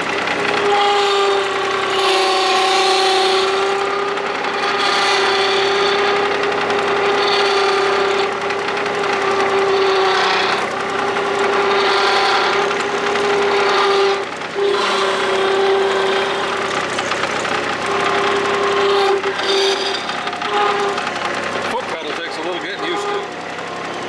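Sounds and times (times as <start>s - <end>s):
diesel vacuum machine whining: 0.0s - 24.0s.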